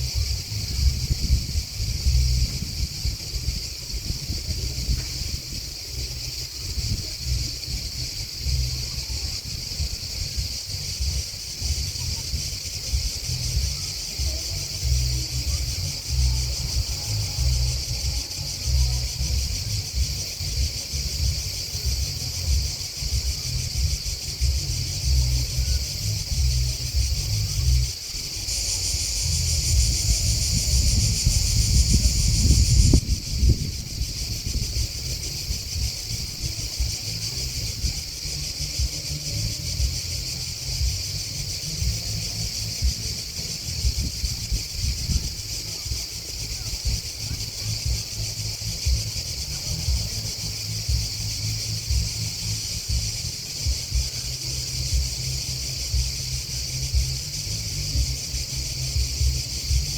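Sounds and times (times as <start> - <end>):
grasshoppers and crickets chirring: 0.0 - 59.9
wind buffeting microphone: 0.0 - 59.9.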